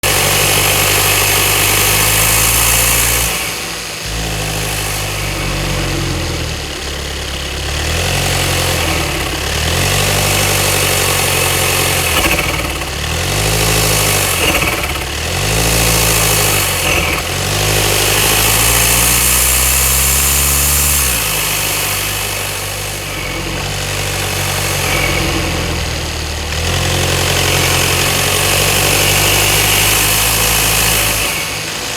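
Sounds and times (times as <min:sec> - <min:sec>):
diesel engine revving: 0:00.0 - 0:31.9
rasping engine rattle: 0:00.0 - 0:31.9.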